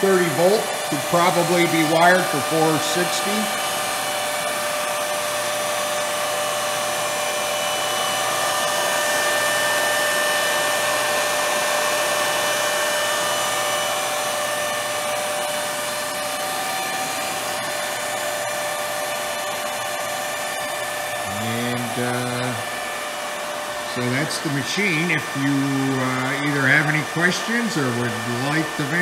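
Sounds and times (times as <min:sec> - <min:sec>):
grinding machine humming: 0:00.0 - 0:29.0
high whining motor tones: 0:00.0 - 0:29.0.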